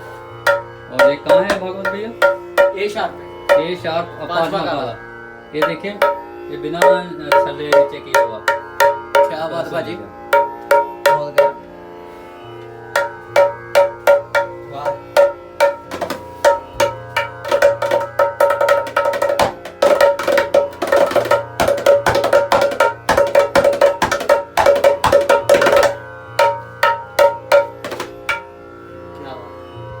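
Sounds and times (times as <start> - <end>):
hand drum strokes: 0.0 - 3.8, 5.6 - 11.7, 12.9 - 28.5.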